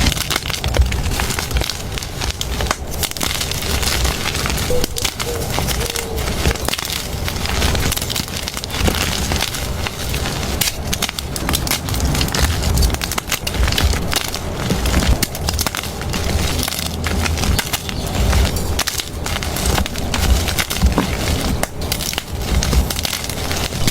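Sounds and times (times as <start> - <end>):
chalk crunching by hand: 0.0 - 23.9.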